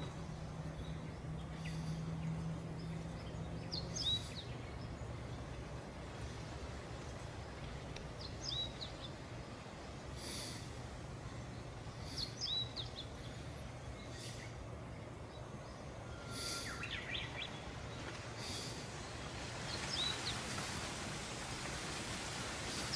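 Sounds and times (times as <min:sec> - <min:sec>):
small birds chirping: 0:00.0 - 0:21.2
low background rumble: 0:00.0 - 0:22.9.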